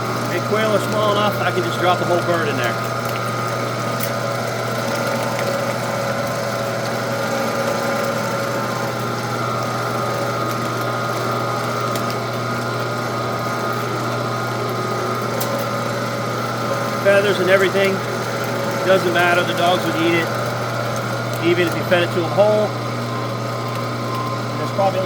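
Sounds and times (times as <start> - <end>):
grinder grinding bones: 0.0 - 25.0
meat grinder motor humming: 0.0 - 25.0.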